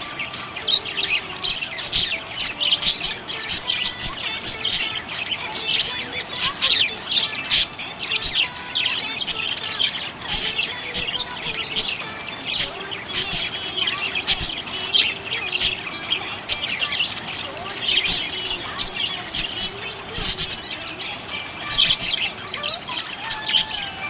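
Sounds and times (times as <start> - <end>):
budgerigars chirping: 0.0 - 24.0.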